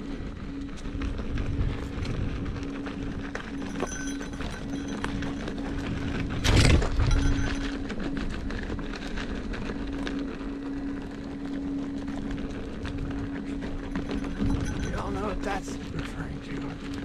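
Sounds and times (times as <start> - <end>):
electric motor hum: 0.0 - 17.0.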